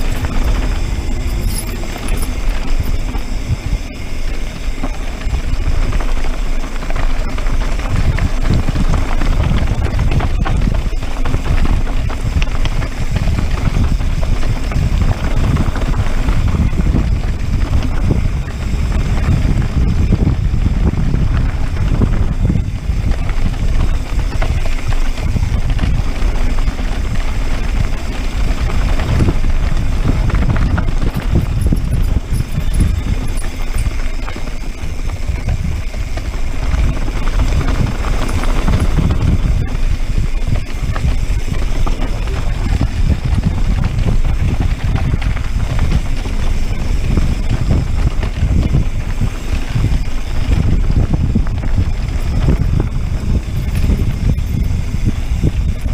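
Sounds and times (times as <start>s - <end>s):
bike rattling over bumps: 0.0s - 55.9s
tyres rolling over rocky trail: 0.0s - 55.9s
wind buffeting microphone: 0.0s - 55.9s.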